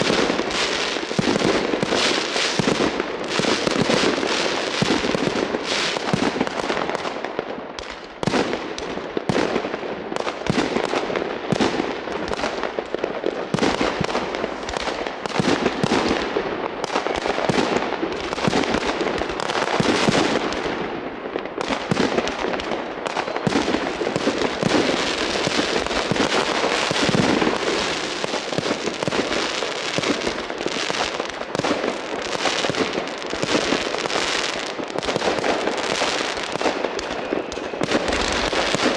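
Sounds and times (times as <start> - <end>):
fireworks and firecrackers barrage: 0.0 - 38.9.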